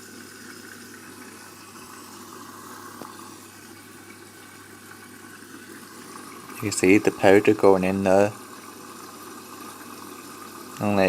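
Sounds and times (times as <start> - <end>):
water running into washing machine: 0.0 - 11.0.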